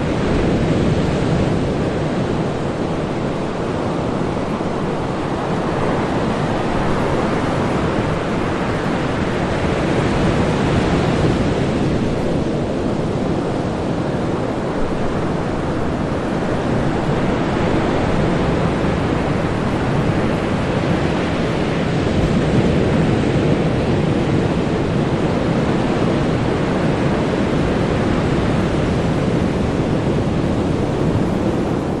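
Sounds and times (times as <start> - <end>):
ocean surf breaking: 0.0 - 32.0.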